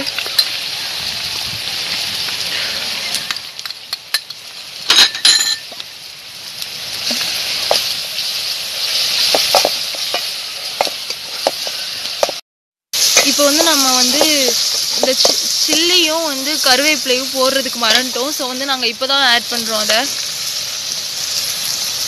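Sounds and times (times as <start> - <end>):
curry sizzling in a bowl: 0.0 - 22.0.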